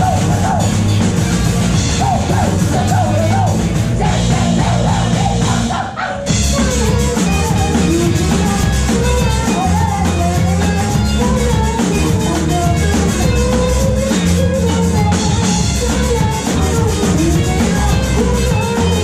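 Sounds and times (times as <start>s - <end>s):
person singing: 0.0s - 0.8s, 1.9s - 19.0s
bass: 0.0s - 19.0s
distorted electric guitar: 0.0s - 19.0s
drums: 0.0s - 19.0s.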